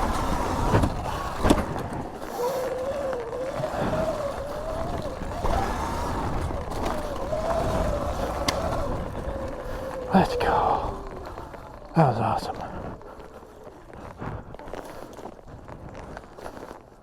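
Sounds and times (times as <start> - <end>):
rumble of wind and tyres: 0.0 - 17.0.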